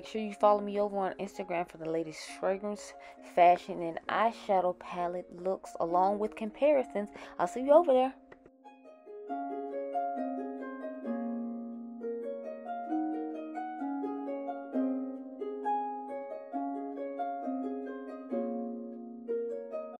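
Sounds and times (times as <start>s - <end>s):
plucked string arpeggios: 0.0s - 20.0s.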